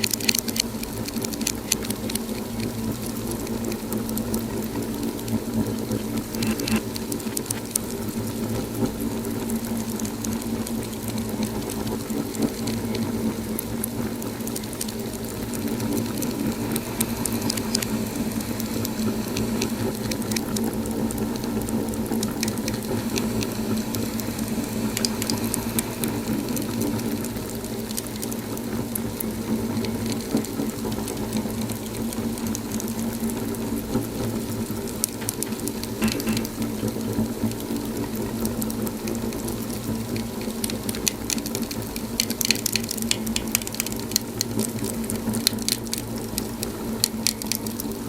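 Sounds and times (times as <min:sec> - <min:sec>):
low rushing of fire: 0:00.0 - 0:48.0
wood fire crackling: 0:00.0 - 0:48.0.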